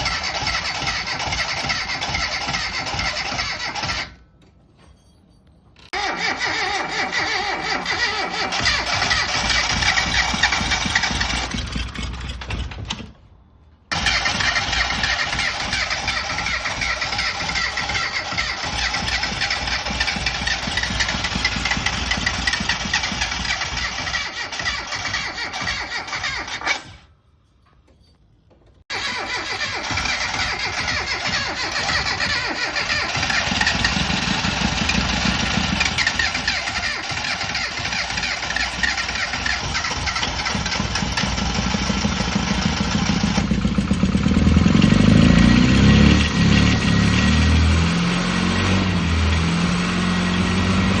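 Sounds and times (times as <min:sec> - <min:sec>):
car engine running: 0:00.0 - 0:03.9, 0:07.8 - 0:12.7, 0:13.9 - 0:25.1, 0:29.0 - 0:51.0.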